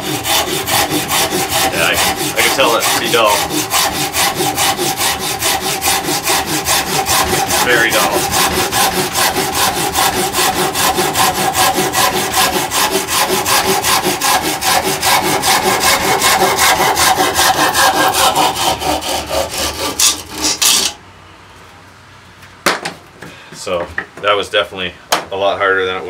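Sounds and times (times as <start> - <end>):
pull saw cutting wood: 0.0 - 21.0.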